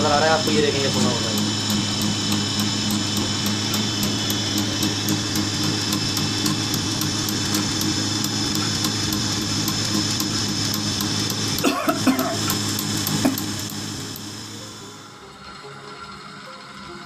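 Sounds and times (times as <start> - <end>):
fast high ticking of cutter: 0.0 - 17.0
machine motor hum: 0.0 - 17.0.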